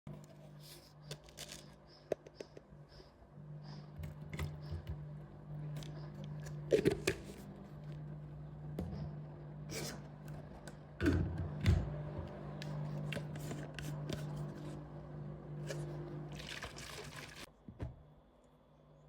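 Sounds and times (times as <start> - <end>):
steady low hum: 0.1 - 16.4.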